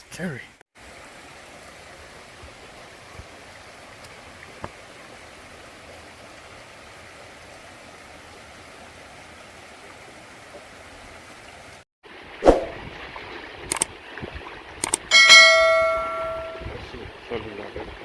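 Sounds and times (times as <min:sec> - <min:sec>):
stream water rushing: 0:00.8 - 0:18.0.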